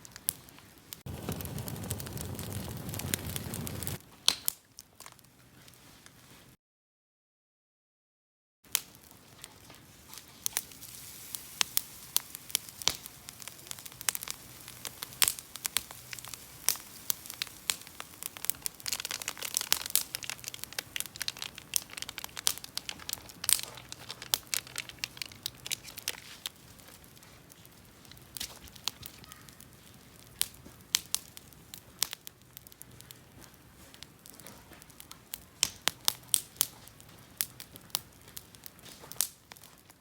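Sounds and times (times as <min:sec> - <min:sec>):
campfire crackling and popping: 0:00.0 - 0:05.8, 0:08.7 - 0:40.0.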